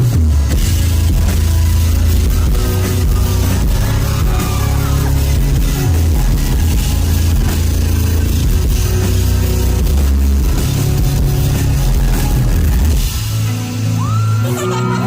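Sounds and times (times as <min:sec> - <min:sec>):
bass guitar: 0:00.0 - 0:15.0
distorted electric guitar: 0:00.0 - 0:15.0
drum kit: 0:00.0 - 0:15.0.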